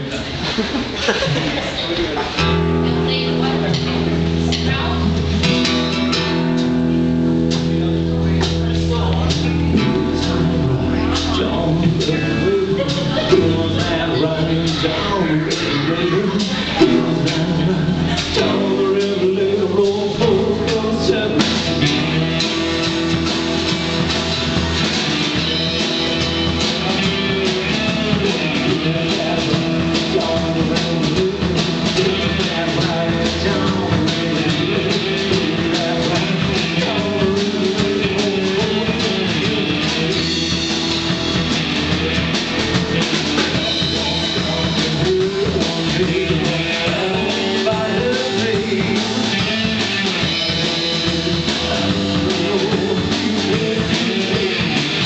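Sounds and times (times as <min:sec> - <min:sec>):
drum kit: 0:00.0 - 0:55.0
electric guitars: 0:00.0 - 0:55.0
strummed acoustic guitar: 0:02.3 - 0:55.0
man singing lead vocal: 0:02.4 - 0:55.0.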